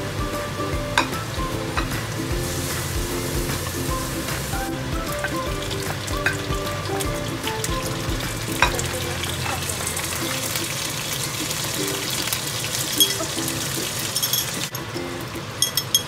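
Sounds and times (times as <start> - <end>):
garlic sizzling in hot oil: 1.0 - 14.7.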